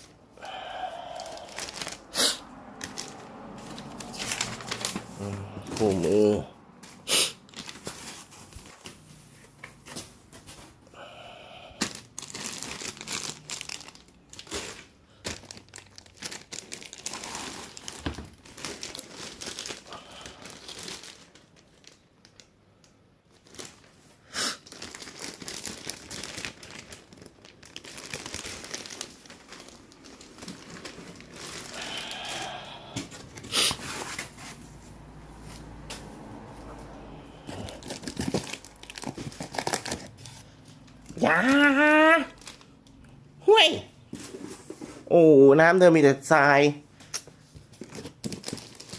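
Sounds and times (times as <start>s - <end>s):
plastic and foam rustling: 0.0s - 10.9s, 11.8s - 22.5s, 23.2s - 42.8s, 44.0s - 45.4s, 47.3s - 48.9s.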